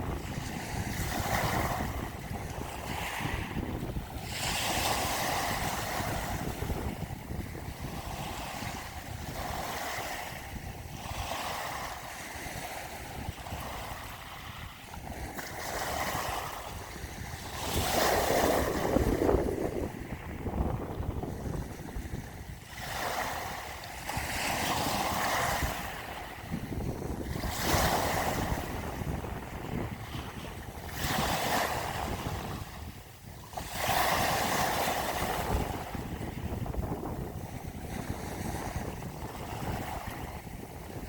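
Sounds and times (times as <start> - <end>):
ocean waves washing in: 0.0 - 41.0.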